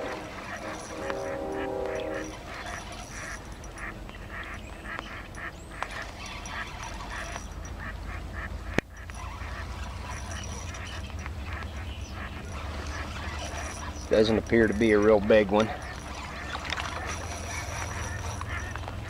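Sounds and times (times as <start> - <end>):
waterfowl honking: 0.0 - 19.0.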